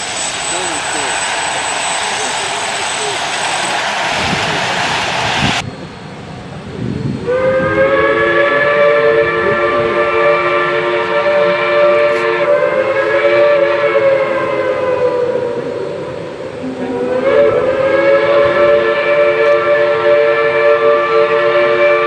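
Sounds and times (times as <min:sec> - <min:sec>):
steam locomotive whistle: 0:00.0 - 0:05.6, 0:07.2 - 0:22.0
loud steam hiss: 0:00.0 - 0:22.0.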